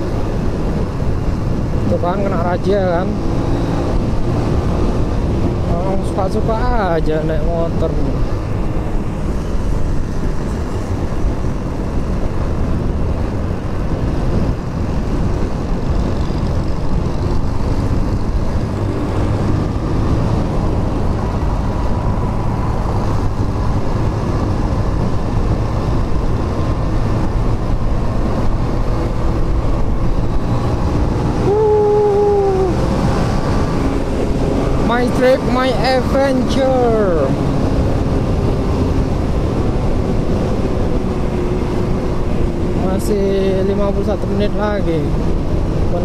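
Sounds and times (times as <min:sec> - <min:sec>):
motorcycle engine and road rumble: 0:00.0 - 0:46.0
wind noise on microphone: 0:00.0 - 0:46.0.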